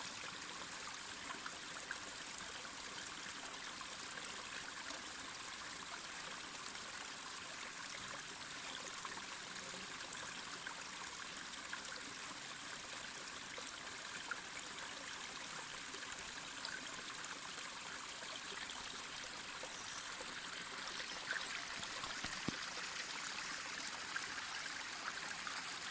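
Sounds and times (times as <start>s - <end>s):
mountain stream flowing: 0.0s - 25.9s.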